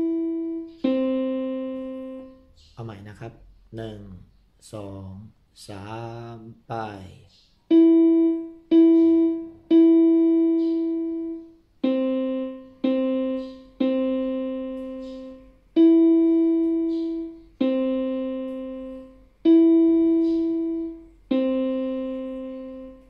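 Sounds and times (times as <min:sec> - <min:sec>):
keyboard piano notes: 0:00.0 - 0:03.2, 0:07.7 - 0:23.0.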